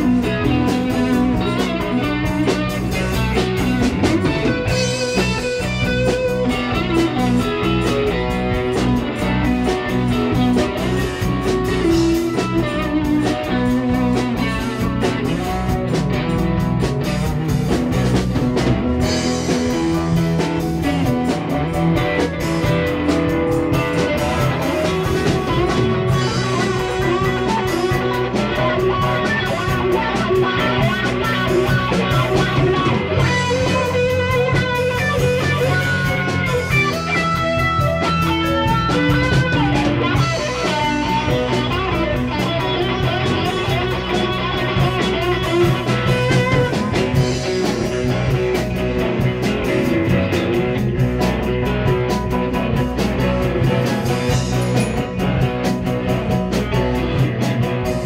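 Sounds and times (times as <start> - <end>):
drums: 0.0 - 58.0
electric bass: 0.0 - 58.0
electric guitar: 0.0 - 58.0
keyboard: 0.0 - 58.0.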